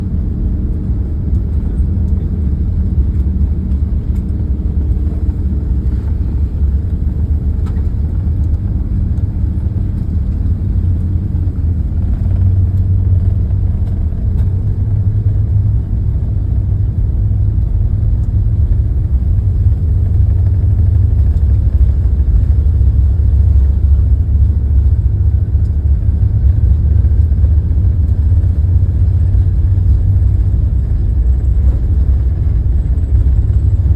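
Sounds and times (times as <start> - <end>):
airplane engine and runway rumble: 0.0 - 33.9
steady low hum: 0.0 - 33.9.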